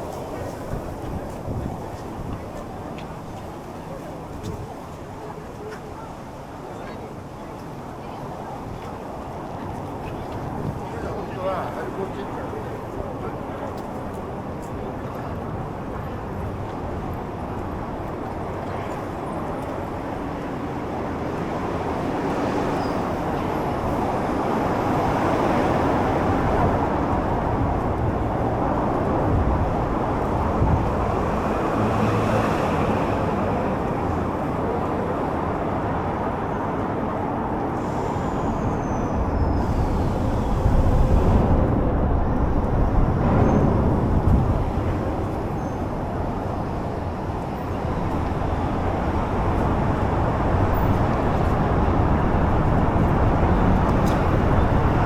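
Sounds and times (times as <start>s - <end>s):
heavy vehicles rumbling: 8.0s - 55.0s
vehicles passing: 8.6s - 55.0s.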